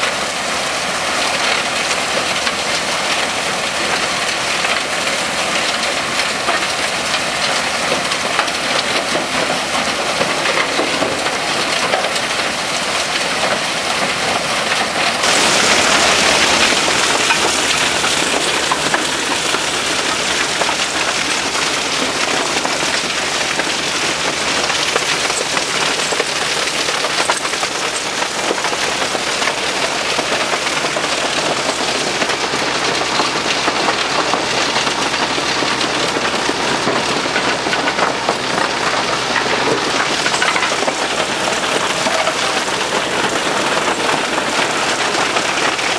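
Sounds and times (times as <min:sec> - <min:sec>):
rock crusher clattering: 0:00.0 - 0:45.9.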